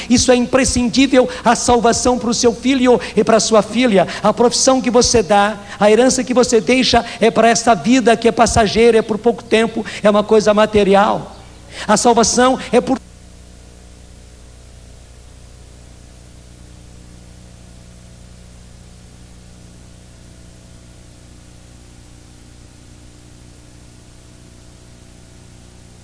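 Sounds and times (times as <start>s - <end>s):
low electrical hum: 0.0s - 26.0s
steady hiss: 0.0s - 26.0s.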